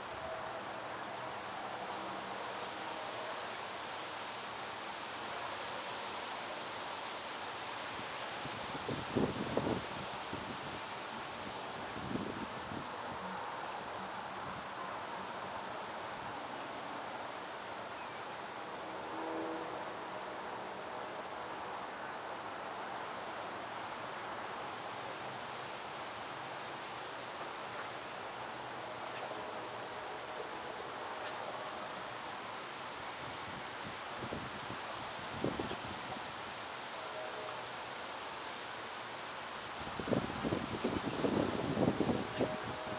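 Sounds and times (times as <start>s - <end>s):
leaves rustling in breeze: 0.0s - 42.9s.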